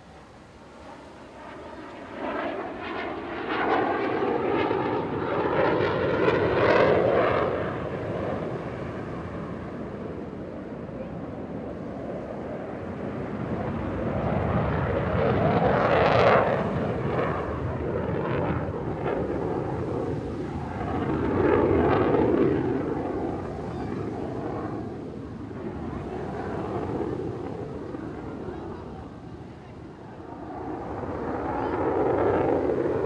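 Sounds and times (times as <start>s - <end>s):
loud rumbling jet engines: 0.0s - 33.0s.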